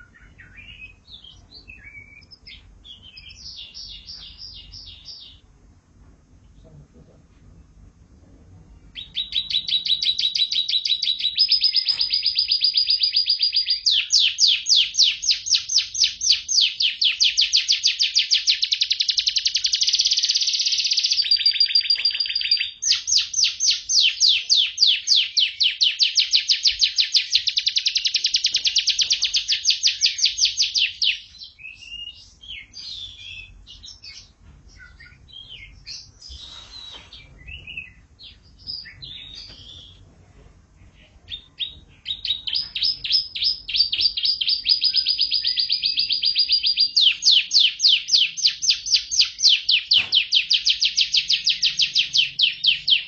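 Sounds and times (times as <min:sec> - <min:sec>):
soft bird chirps: 0:00.0 - 0:05.5, 0:08.7 - 0:40.0, 0:40.8 - 0:53.0
canary singing trills: 0:00.0 - 0:05.6, 0:08.7 - 0:40.0, 0:40.8 - 0:53.0.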